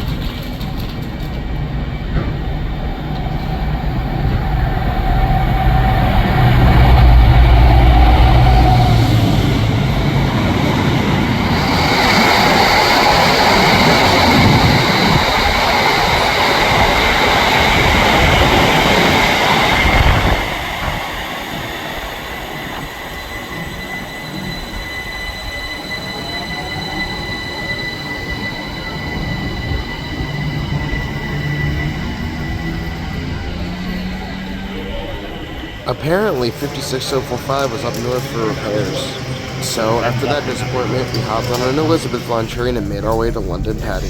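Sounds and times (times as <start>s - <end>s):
train rumbling on rails: 0.0s - 44.0s
high-pitched wheel squeal: 2.2s - 42.6s.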